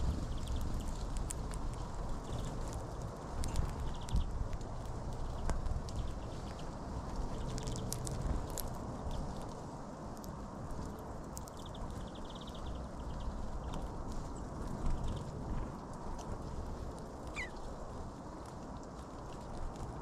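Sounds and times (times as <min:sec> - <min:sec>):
birds pecking and cracking seeds: 0:00.0 - 0:20.0
steady low rumble: 0:00.0 - 0:20.0.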